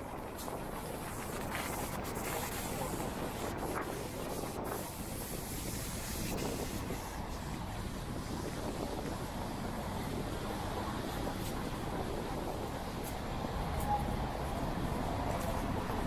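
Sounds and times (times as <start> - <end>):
wet traffic: 0.0 - 16.0
wind noise on microphone: 0.0 - 16.0.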